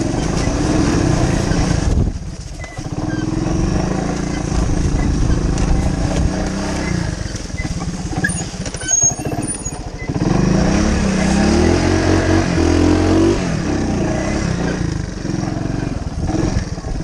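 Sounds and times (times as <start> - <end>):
engine revving: 0.0 - 2.0, 2.8 - 17.0.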